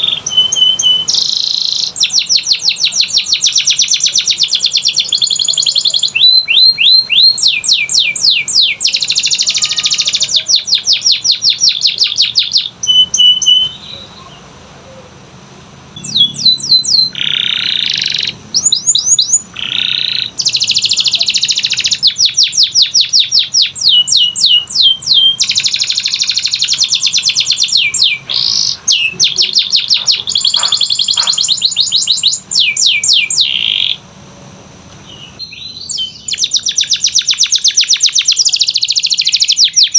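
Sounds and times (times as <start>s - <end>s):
canary singing trills: 0.0s - 15.3s, 15.9s - 34.1s, 35.0s - 39.9s.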